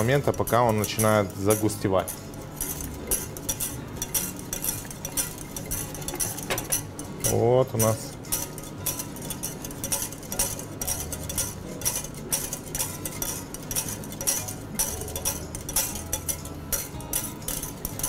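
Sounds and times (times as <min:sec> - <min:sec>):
whisk clinking against a saucepan: 0:00.0 - 0:18.0.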